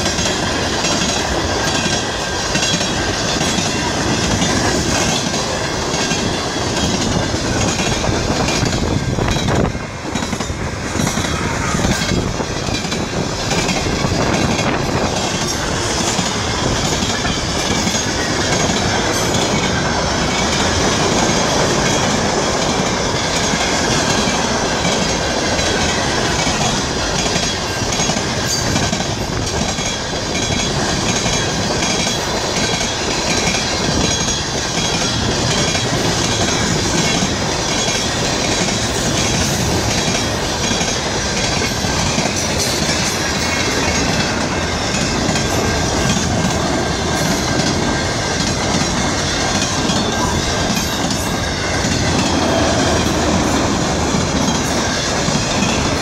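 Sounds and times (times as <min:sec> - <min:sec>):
crossing warning bell ringing: 0:00.0 - 0:56.0
freight train wheels clattering: 0:00.0 - 0:56.0.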